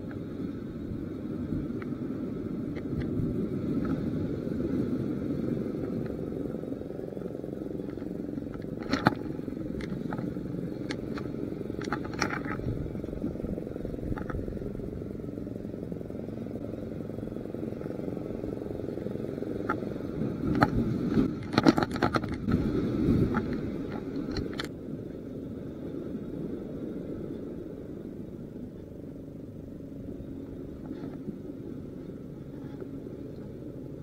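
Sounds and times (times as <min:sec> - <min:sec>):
low rumble of wind: 0:00.0 - 0:34.0.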